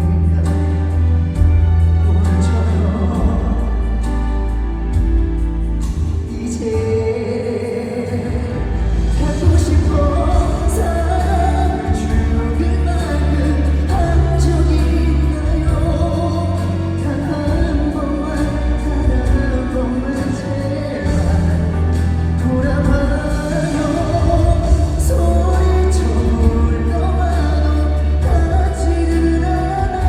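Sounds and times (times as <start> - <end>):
band with heavy bass: 0.0 - 30.0
man singing pop ballad: 0.0 - 30.0.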